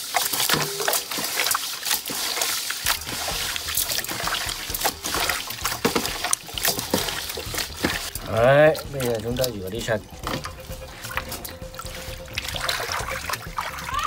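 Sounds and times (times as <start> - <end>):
wet squelching and sloshing: 0.0 - 14.0.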